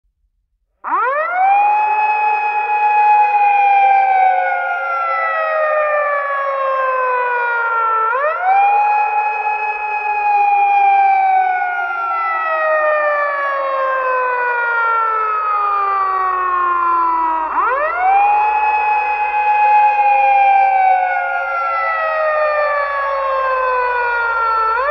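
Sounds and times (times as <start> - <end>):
siren wailing: 0.8 - 24.9.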